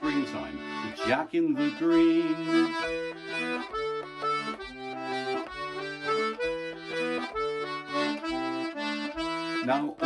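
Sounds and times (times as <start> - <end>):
squeezebox playing a folk tune: 0.0 - 10.0.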